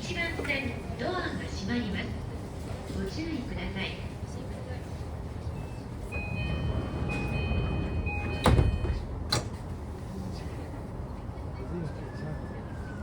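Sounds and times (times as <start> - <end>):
low train rumble: 0.0 - 13.0.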